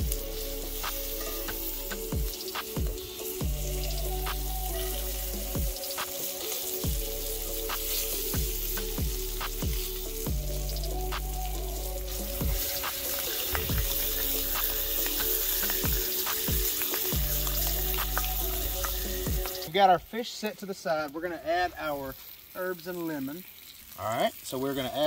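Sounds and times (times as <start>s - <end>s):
background music: 0.0s - 21.8s
fish sizzling in a skillet: 0.0s - 25.0s.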